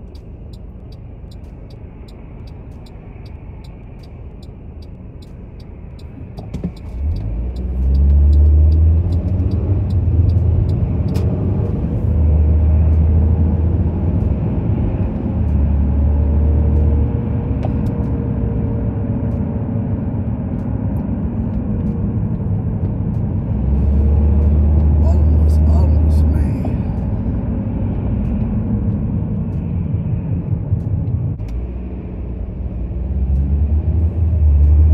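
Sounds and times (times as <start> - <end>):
car engine accelerating: 5.9 - 34.9.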